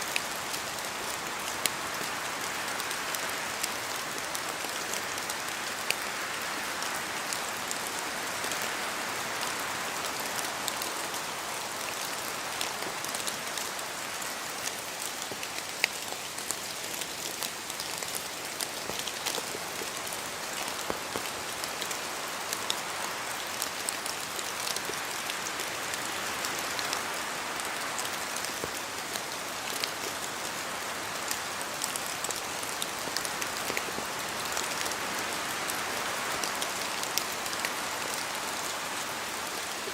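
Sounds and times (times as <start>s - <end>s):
rain falling in a forest: 0.0s - 39.9s
raindrops ticking on leaves: 0.0s - 39.9s
wind through trees: 0.0s - 39.9s.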